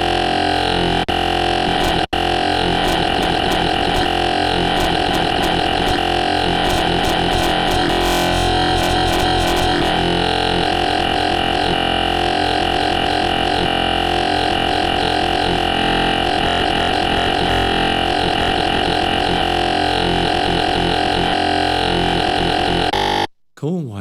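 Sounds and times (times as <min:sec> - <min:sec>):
wobbling growl bass synth: 0:00.0 - 0:23.2.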